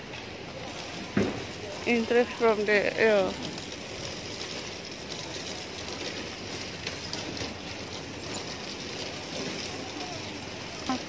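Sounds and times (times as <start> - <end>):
market hall background hiss: 0.0 - 11.0.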